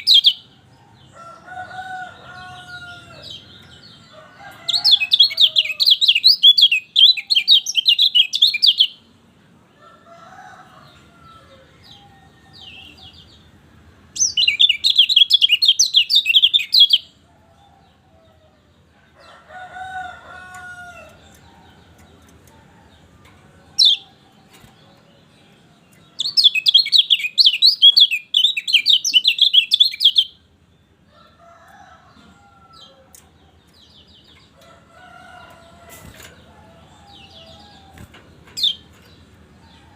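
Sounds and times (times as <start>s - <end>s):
bird twittering song: 0.0s - 9.1s, 10.8s - 18.4s, 20.0s - 39.9s.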